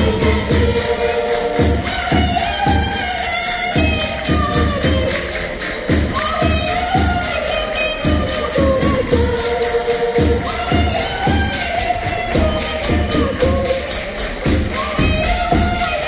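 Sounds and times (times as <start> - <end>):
accordion melody: 0.0 - 16.0
steady drum beat: 0.0 - 16.0
tambourine jingles: 0.0 - 16.0
voices singing: 0.0 - 16.0.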